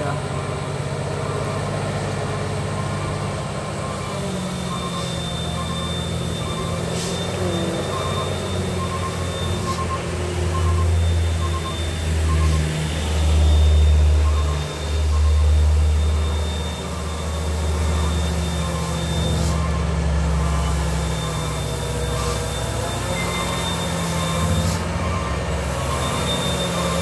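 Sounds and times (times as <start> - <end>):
diesel truck engine droning: 0.0 - 27.0.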